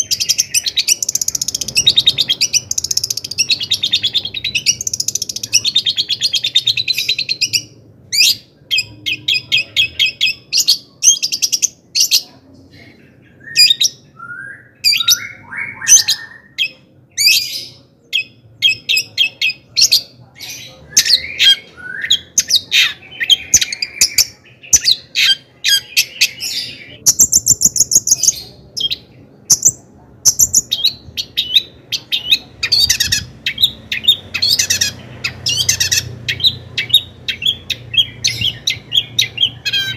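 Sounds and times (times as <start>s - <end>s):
shrike singing: 0.0s - 12.3s, 13.1s - 39.9s.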